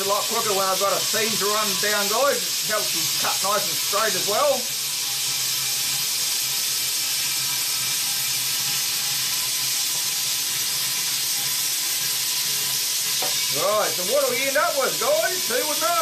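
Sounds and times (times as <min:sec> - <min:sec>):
plasma cutter hissing: 0:00.0 - 0:16.0.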